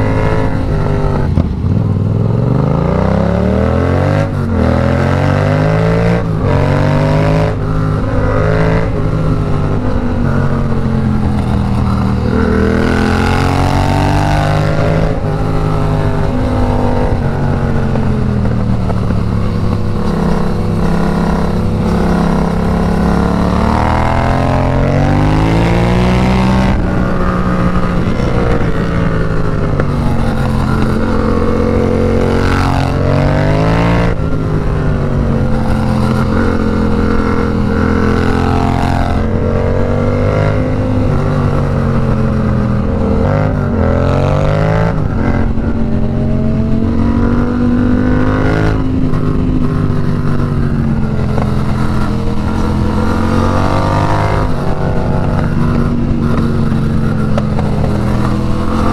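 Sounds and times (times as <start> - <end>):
motorcycle engine accelerating: 0.0 - 58.9
wind rush: 0.0 - 58.9.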